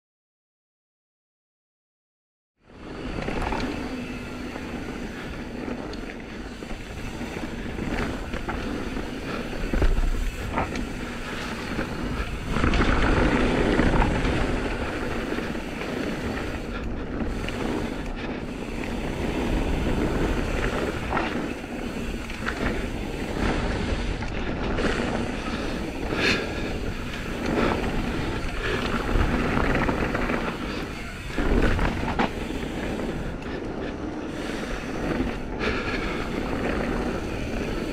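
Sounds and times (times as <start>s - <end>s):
wind rushing over microphone: 2.7s - 37.9s
tyres rolling on dirt: 2.8s - 37.9s.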